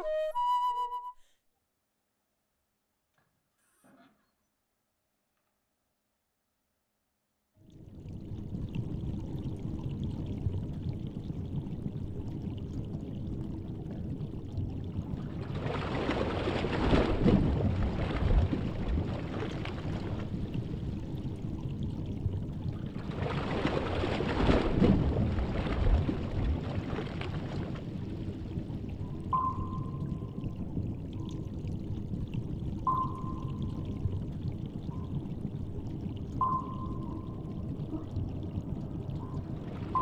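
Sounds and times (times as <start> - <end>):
rushing pouring water: 7.6 - 40.0.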